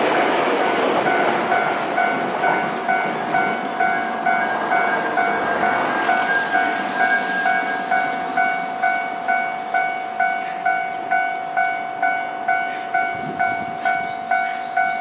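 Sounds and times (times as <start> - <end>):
train rumble: 0.0 - 15.0
level-crossing warning bell: 0.9 - 15.0.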